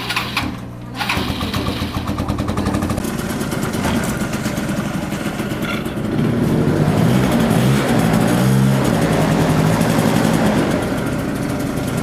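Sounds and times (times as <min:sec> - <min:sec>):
moped engine running: 0:00.0 - 0:12.0.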